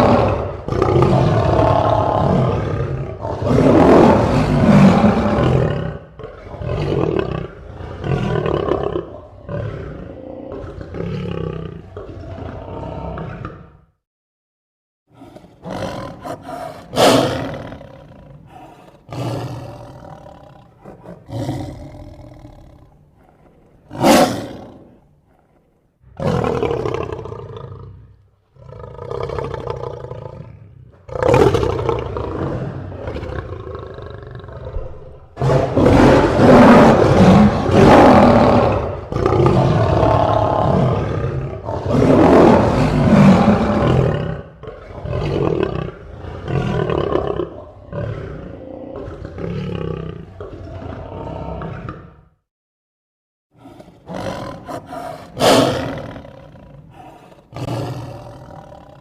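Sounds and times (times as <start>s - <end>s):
lion roaring: 0.0s - 14.0s, 15.1s - 52.4s, 53.6s - 59.0s.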